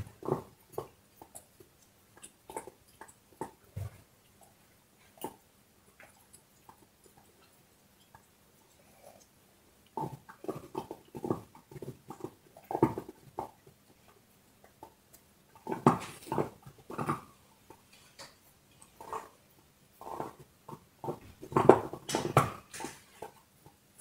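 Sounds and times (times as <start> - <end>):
dog chewing a bone: 0.0 - 23.8.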